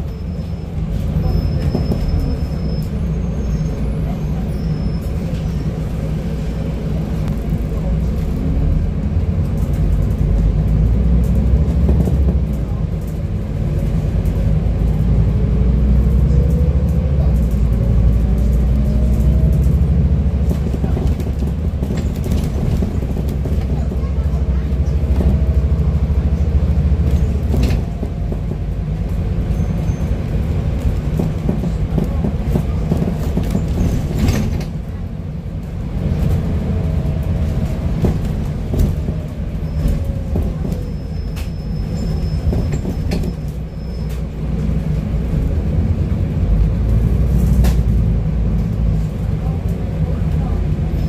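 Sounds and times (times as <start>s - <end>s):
bus diesel engine rumbling: 0.0s - 51.0s
road noise: 0.0s - 51.0s.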